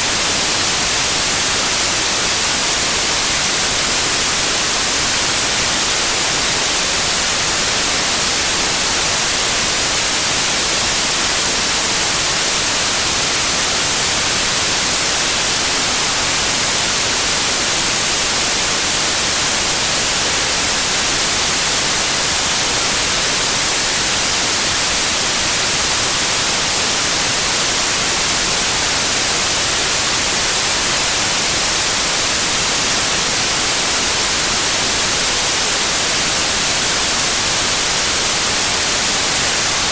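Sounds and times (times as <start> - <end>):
electronic static hiss: 0.0 - 39.9.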